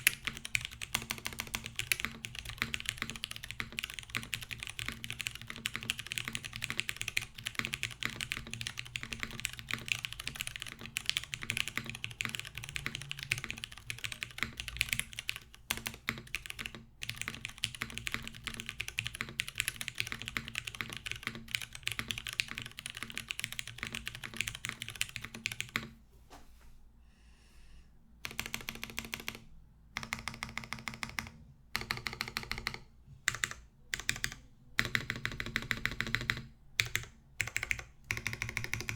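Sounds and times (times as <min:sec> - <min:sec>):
mechanical keyboard typing: 0:00.0 - 0:25.9, 0:28.2 - 0:38.9.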